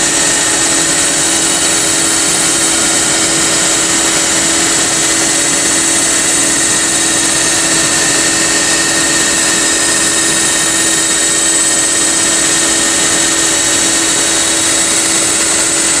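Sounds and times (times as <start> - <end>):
metalworking machine hum: 0.0 - 16.0.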